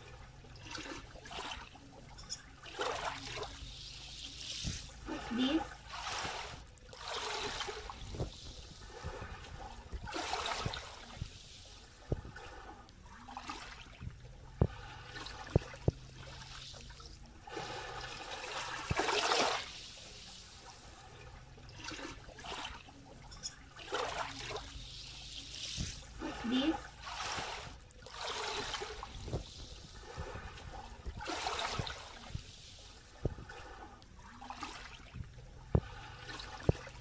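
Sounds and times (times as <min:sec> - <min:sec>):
small waves lapping on shore: 0:00.0 - 0:37.0.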